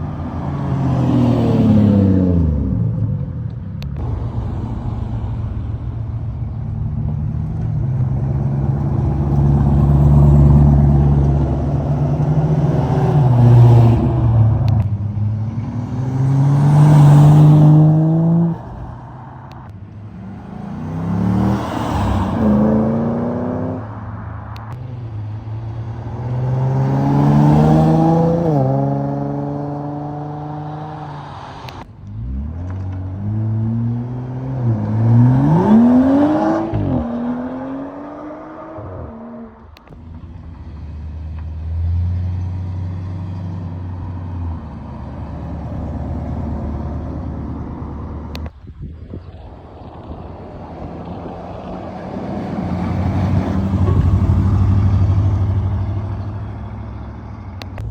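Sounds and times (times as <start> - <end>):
car engines revving through gears: 0.0 - 48.5.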